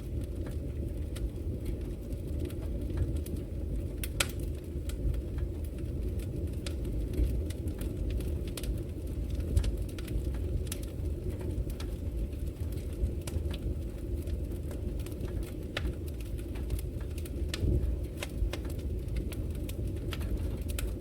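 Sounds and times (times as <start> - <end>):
logs crackling and popping: 0.0 - 21.0
wood fire flames rumbling: 0.0 - 21.0.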